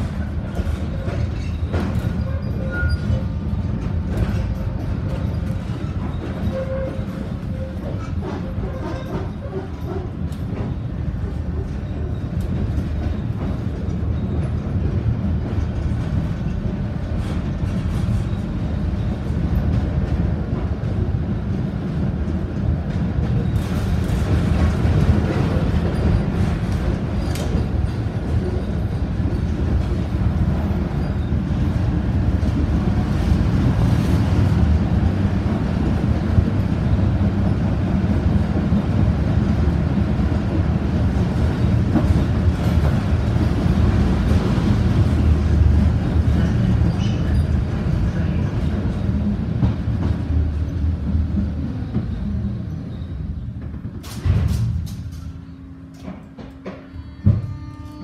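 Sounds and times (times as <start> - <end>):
tram wheels rumbling on rails: 0.0 - 58.0.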